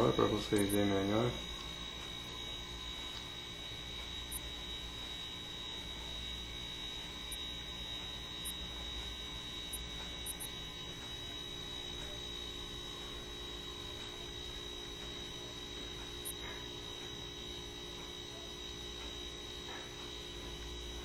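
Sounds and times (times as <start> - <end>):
electrical hum: 0.0 - 21.0
high steady whine: 0.0 - 21.0.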